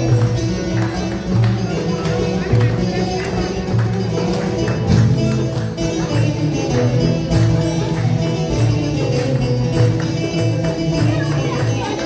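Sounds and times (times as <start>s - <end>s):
folk music over speakers: 0.0s - 12.0s
hand drums and tambourine: 0.0s - 12.0s.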